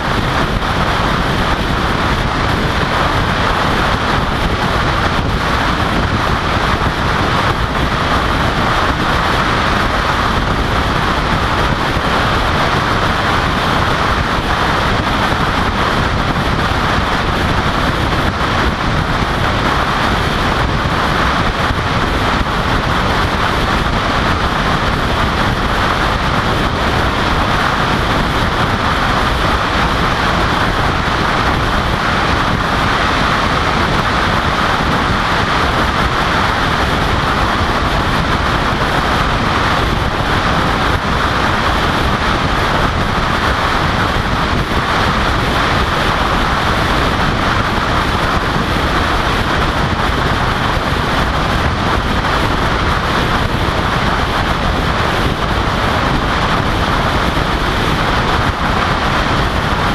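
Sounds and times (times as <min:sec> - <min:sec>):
car wind and tyre noise: 0:00.0 - 0:59.9
wind blowing across microphone: 0:00.0 - 0:59.9.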